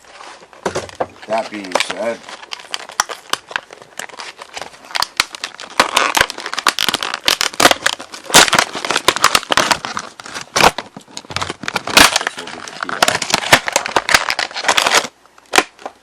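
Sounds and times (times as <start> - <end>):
plastic packaging crackling: 0.0 - 16.0.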